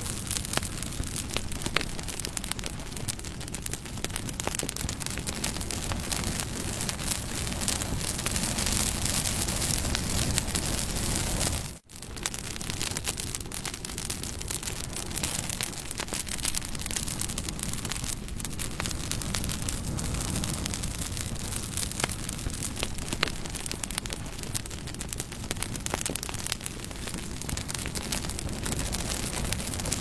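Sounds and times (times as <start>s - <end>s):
flames hissing: 0.0s - 30.0s
wood crackling and popping: 0.0s - 30.0s.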